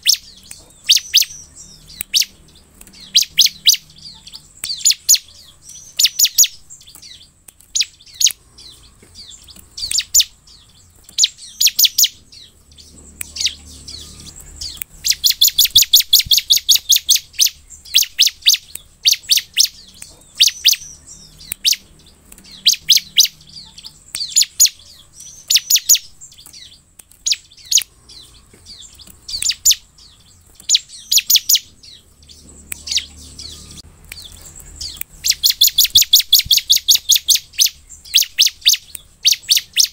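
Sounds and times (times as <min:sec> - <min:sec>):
bird chirps and rattling trills: 0:00.0 - 0:39.9.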